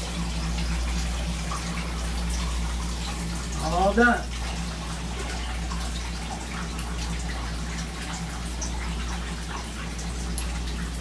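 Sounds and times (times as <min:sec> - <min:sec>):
liquid dripping and trickling: 0:00.0 - 0:11.0
machine low hum: 0:00.0 - 0:11.0.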